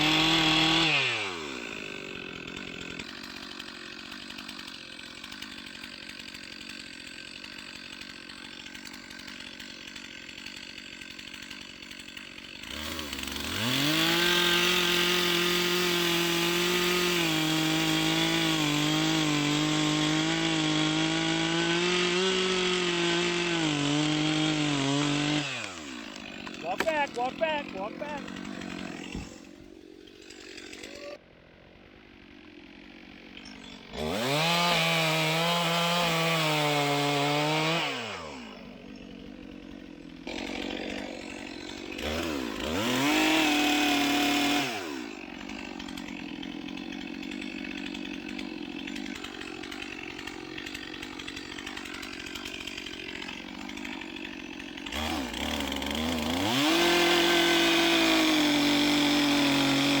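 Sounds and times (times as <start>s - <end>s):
chainsaw revving and idling: 0.0s - 60.0s.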